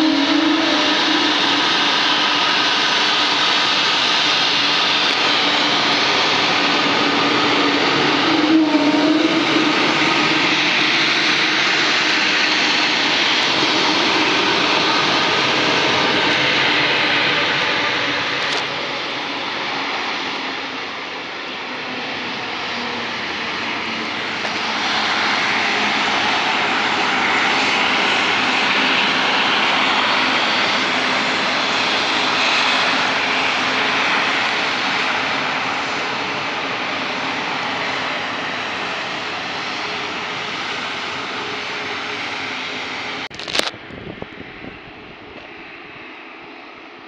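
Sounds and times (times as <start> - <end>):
jet engines whining at taxi: 0.0 - 47.0.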